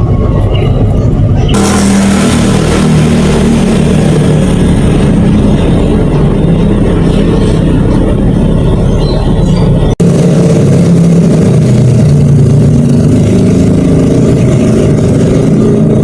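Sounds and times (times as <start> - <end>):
loud rushing noise: 0.0 - 16.0
vehicle engine hum: 0.0 - 16.0.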